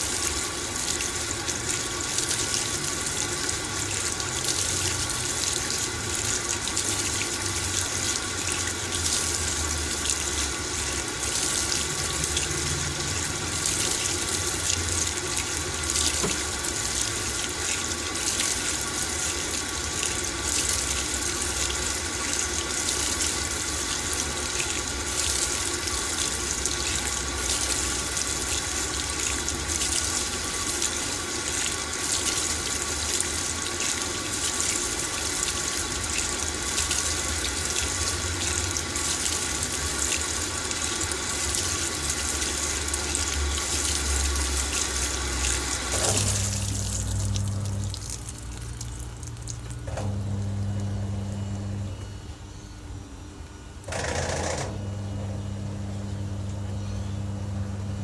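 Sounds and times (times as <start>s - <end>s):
washing machine filling with water: 0.0s - 58.0s.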